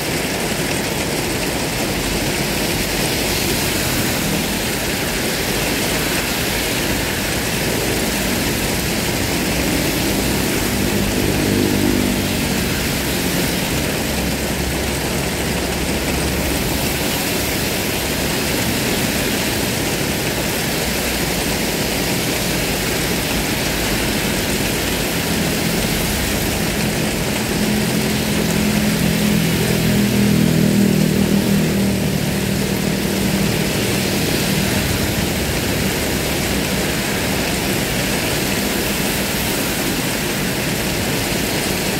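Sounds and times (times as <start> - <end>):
cars driving on wet road: 0.0 - 41.9
heavy rain: 0.0 - 41.9.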